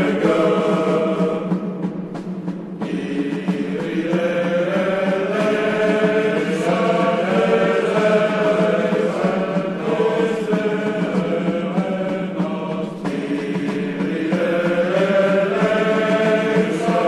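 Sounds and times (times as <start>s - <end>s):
slow chant-like melody: 0.0s - 17.0s.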